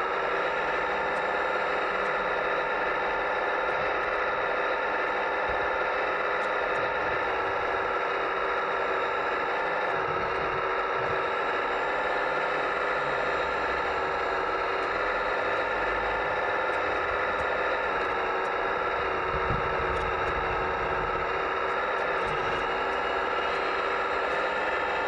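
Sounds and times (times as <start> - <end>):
hydraulic whine of toy excavator: 0.0 - 25.0.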